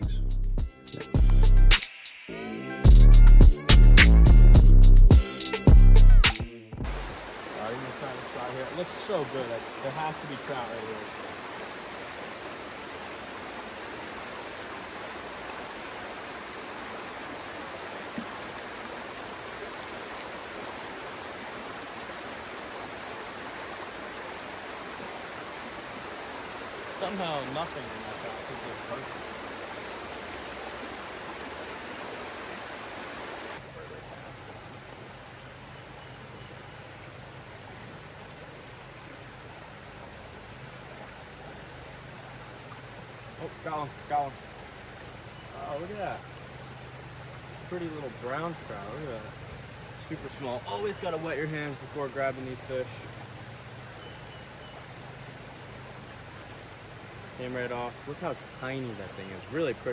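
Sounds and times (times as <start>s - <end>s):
stream water rushing: 3.5s - 59.9s.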